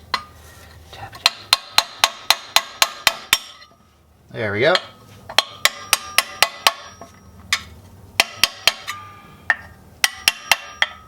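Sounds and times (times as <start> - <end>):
hammer tapping metal: 1.2 - 3.8, 4.7 - 11.0.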